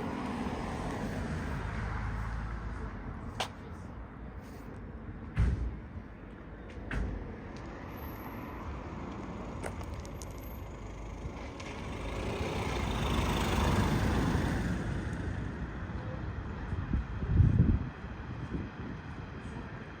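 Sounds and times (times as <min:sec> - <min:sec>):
road vehicle passing by: 0:00.0 - 0:04.7, 0:07.7 - 0:19.9.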